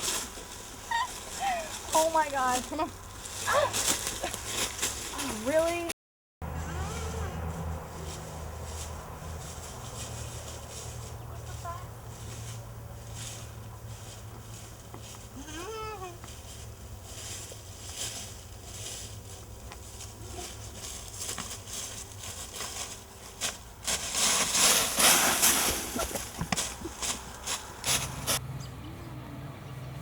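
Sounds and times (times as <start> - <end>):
dry leaves crunching underfoot: 0.0 - 28.4.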